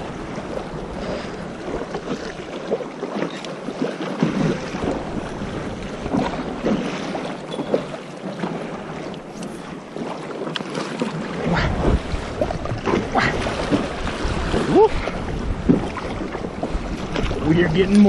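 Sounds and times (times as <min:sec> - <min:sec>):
water slapping paddleboard: 0:00.0 - 0:18.0.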